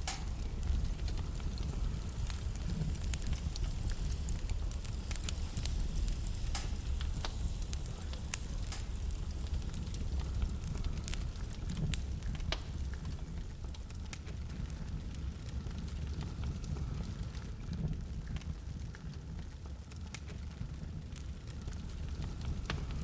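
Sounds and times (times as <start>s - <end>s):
flames rumbling: 0.0s - 23.0s
logs crackling and popping: 0.0s - 23.0s.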